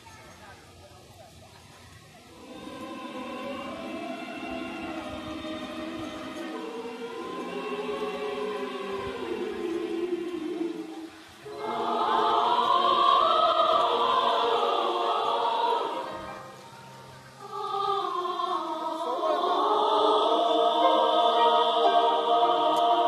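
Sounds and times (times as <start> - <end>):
large choir singing: 2.3 - 23.0.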